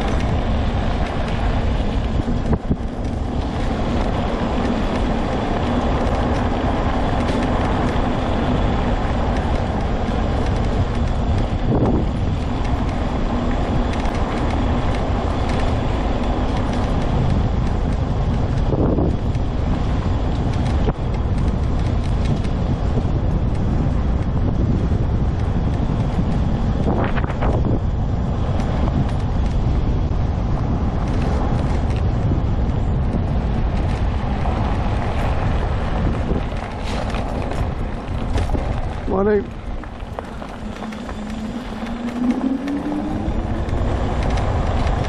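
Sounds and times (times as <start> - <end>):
mobility scooter rumbling: 0.0 - 45.0
wind buffeting microphone: 0.0 - 45.0.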